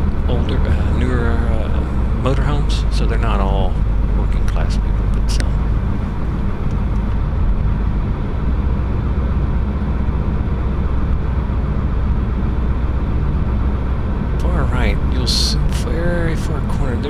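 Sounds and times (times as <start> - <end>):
truck engine and tyres droning: 0.0 - 17.0.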